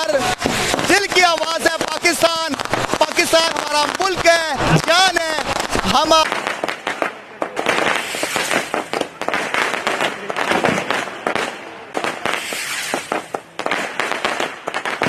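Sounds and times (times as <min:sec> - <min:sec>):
fireworks cracking and popping: 0:00.0 - 0:15.0.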